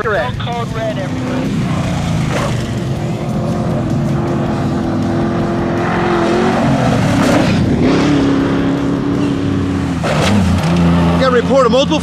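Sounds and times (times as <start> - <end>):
race vehicle engine revving: 0.8 - 12.0.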